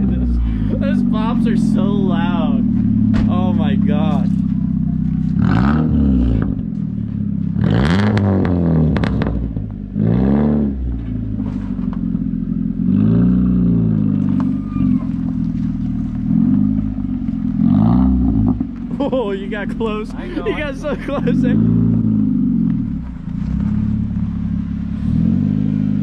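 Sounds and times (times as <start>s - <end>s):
exhaust pops crackling: 0.0s - 9.9s, 10.6s - 24.9s
car engine revving: 0.0s - 26.0s.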